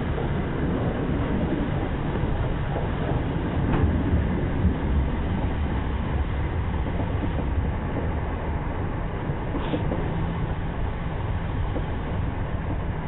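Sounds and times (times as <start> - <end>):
rushing air: 0.0 - 13.0
train wheels rumbling on rails: 0.0 - 13.0.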